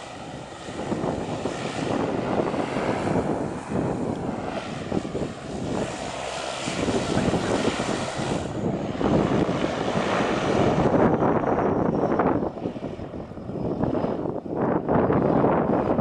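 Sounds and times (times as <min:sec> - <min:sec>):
wind gusting across microphone: 0:00.0 - 0:16.0.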